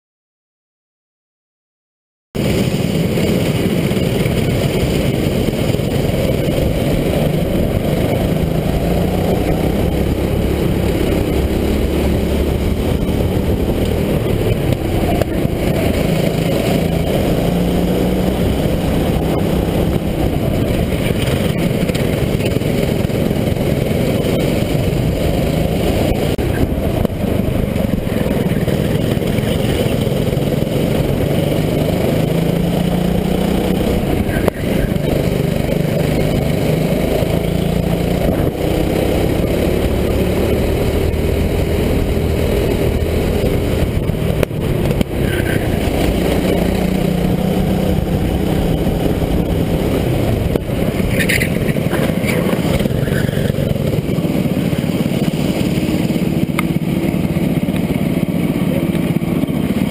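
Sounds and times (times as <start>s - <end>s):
go-kart engine running hard: 2.4s - 59.9s.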